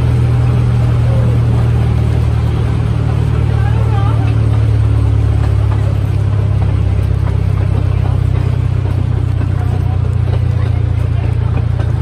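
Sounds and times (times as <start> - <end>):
train engine drone: 0.0 - 12.0.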